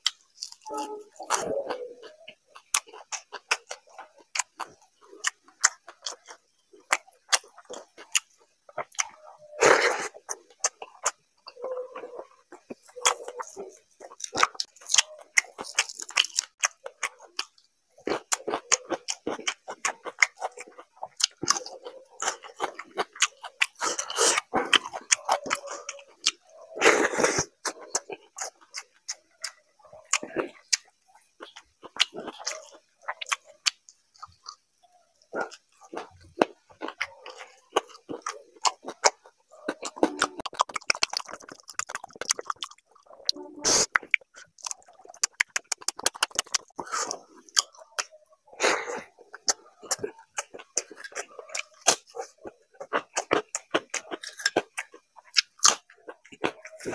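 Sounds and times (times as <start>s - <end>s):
man chewing and lip smacking: 0.0s - 56.9s.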